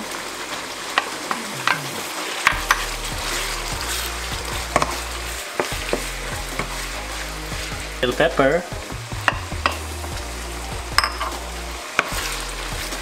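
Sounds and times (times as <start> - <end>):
sauce sizzling in a pan: 0.0 - 13.0.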